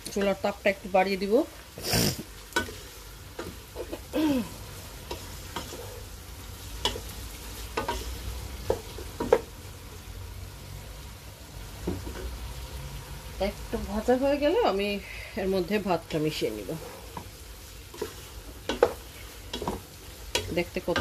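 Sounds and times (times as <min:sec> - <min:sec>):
vegetables sizzling: 0:00.0 - 0:21.0.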